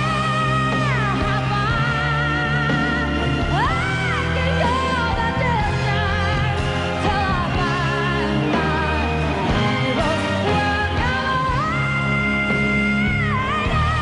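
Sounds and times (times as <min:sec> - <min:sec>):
live band playing pop ballad: 0:00.0 - 0:14.0.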